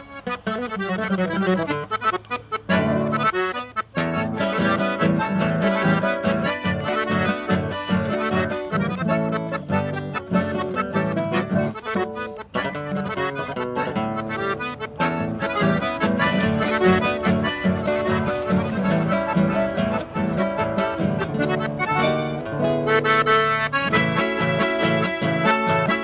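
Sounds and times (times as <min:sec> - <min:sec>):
accordion: 0:00.0 - 0:26.0
guitar accompaniment: 0:00.0 - 0:26.0.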